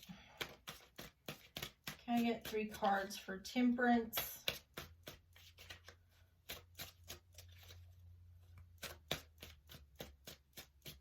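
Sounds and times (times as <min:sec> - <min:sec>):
cards being shuffled: 0:00.0 - 0:03.2, 0:04.2 - 0:08.0, 0:08.6 - 0:11.0.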